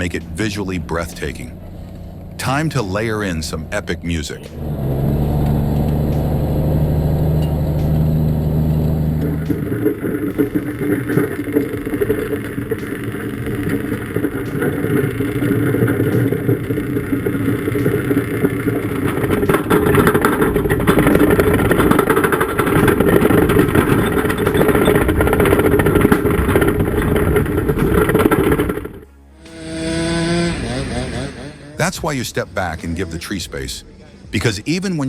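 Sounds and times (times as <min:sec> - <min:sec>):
heavy vehicle engine under load: 0:00.0 - 0:33.7.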